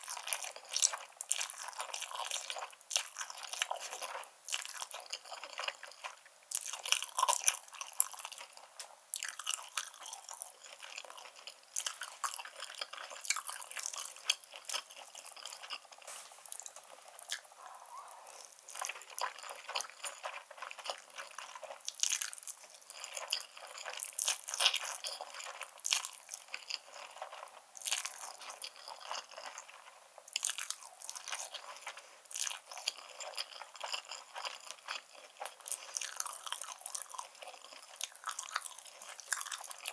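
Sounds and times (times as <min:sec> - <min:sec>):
chewing with wet clicks and smacks: 0:00.0 - 0:39.9.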